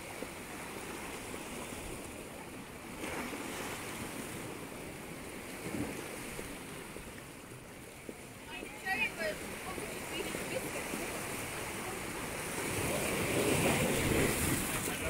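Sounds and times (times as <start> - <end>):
surf washing over rocks: 0.0 - 15.0.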